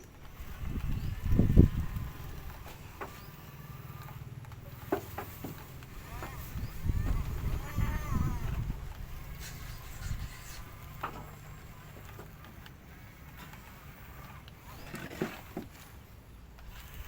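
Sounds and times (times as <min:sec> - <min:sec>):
heavy machinery engine rumbling: 0:00.0 - 0:17.0.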